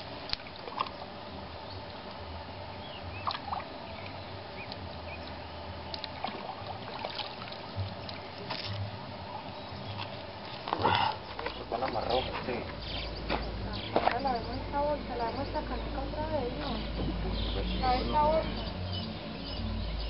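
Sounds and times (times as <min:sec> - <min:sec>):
low rumble: 0:01.3 - 0:20.0.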